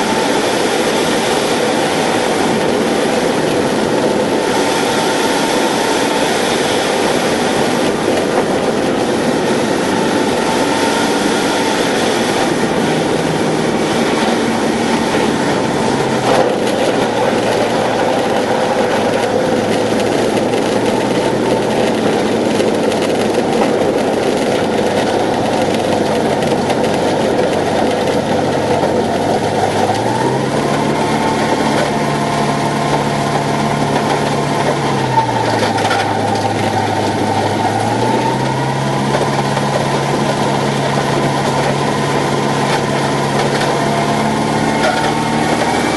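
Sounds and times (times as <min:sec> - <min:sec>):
light aircraft engine running: 0:00.0 - 0:45.9.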